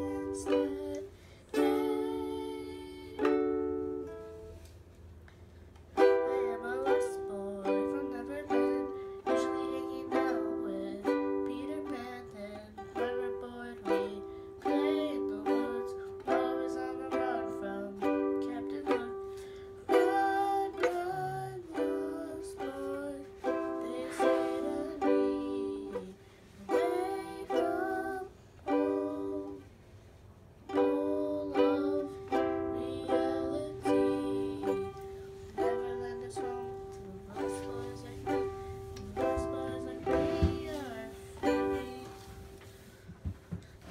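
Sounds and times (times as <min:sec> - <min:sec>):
ukulele strumming: 0:00.0 - 0:04.9, 0:05.8 - 0:29.8, 0:30.6 - 0:43.9.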